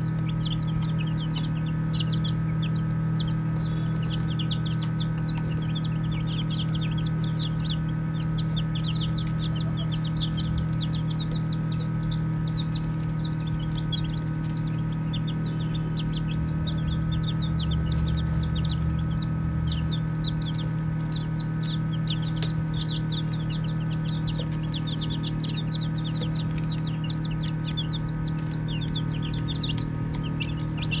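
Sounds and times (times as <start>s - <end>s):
baby chicks peeping: 0.0s - 31.0s
steady low hum: 0.0s - 31.0s.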